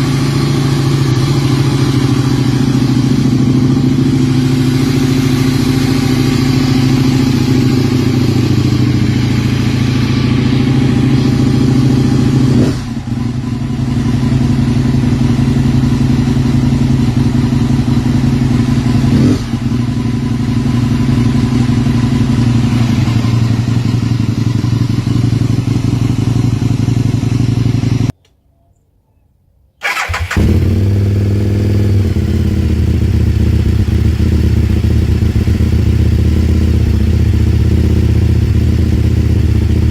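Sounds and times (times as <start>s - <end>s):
motorcycle engine idling: 0.0s - 28.1s, 29.8s - 39.9s.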